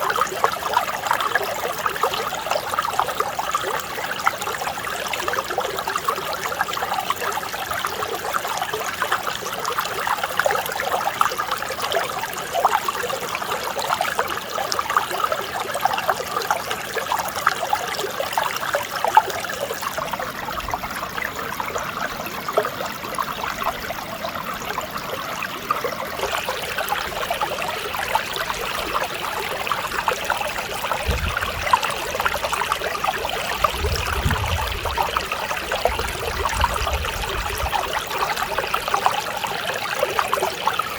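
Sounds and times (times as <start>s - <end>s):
stream babbling over rocks: 0.0s - 40.9s.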